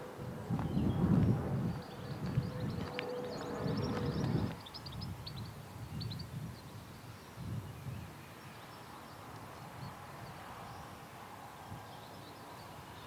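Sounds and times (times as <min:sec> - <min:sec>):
wind rumbling on microphone: 0:00.0 - 0:13.0
small birds chirping: 0:00.6 - 0:13.0.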